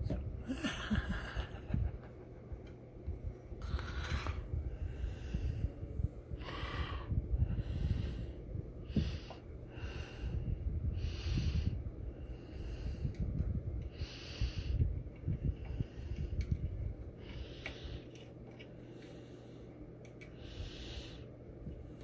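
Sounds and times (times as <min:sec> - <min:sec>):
low rumble: 0:00.0 - 0:19.6
breathing close to microphone: 0:03.6 - 0:22.0.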